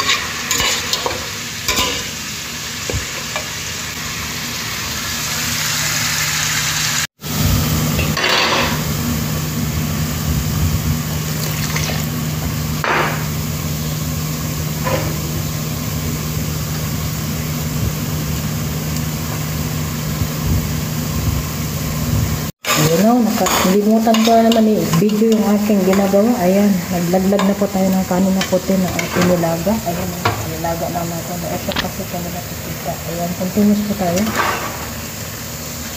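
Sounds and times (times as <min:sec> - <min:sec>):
food sizzling in a pan: 0:00.0 - 0:35.9.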